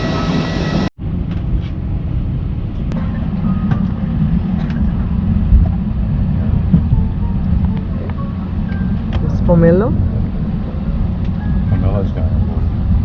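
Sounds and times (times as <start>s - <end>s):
low mechanical engine rumble: 0.0s - 13.0s.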